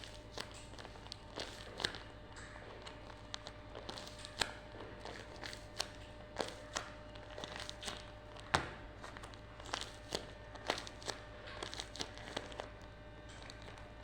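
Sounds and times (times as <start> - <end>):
paper crinkling: 0.0 - 14.0.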